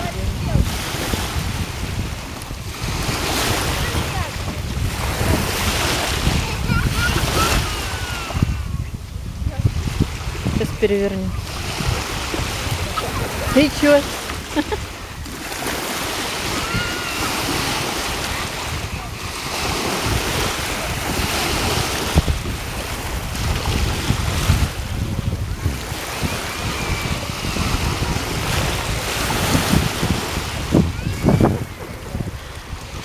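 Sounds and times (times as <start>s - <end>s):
waves lapping on shore: 0.0s - 33.0s
wind blowing over microphone: 0.0s - 33.0s.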